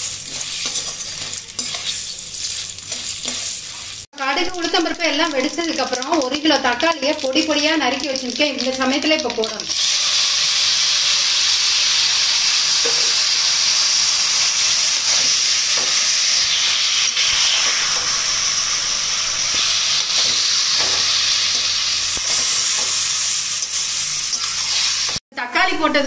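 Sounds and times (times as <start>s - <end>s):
tomatoes sizzling in hot oil: 0.0s - 25.2s.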